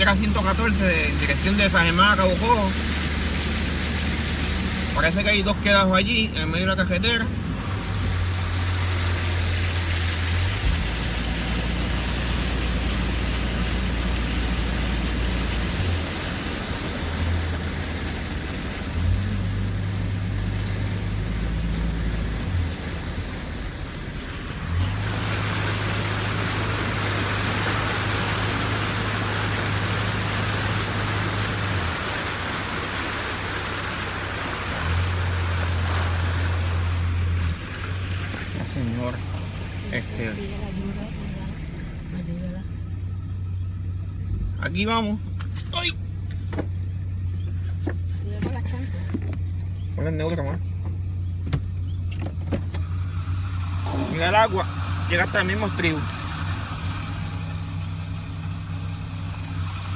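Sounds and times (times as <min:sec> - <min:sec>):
water washing: 0:00.0 - 0:43.9, 0:45.4 - 0:59.9
engine rumble: 0:00.0 - 0:59.9.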